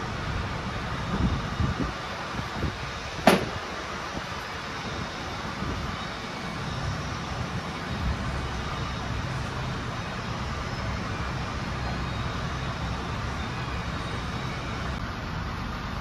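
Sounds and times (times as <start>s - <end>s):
workshop rumble and hiss: 0.0s - 16.0s.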